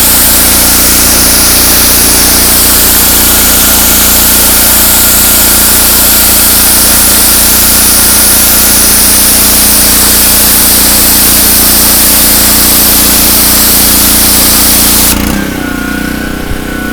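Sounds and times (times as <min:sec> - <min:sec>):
high-pressure water spray hissing: 0:00.0 - 0:15.2
pressure washer engine running: 0:00.0 - 0:16.9.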